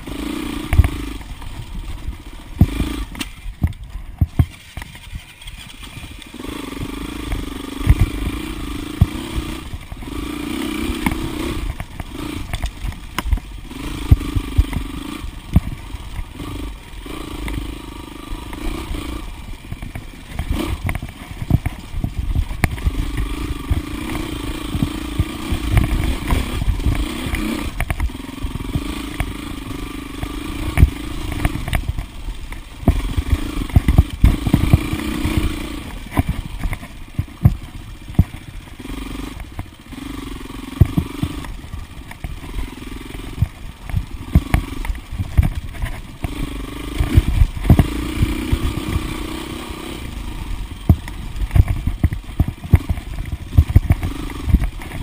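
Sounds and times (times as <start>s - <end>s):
dirt bike engine revving: 0.0s - 55.0s
sharp knocks and rattles: 0.6s - 55.0s.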